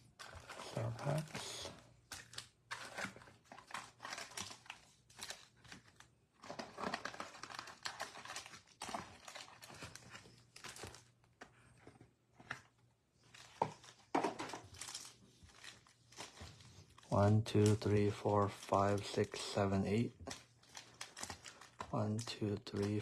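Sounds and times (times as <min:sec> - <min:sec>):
foil wrappers crinkling: 0:00.0 - 0:11.4, 0:13.2 - 0:23.0.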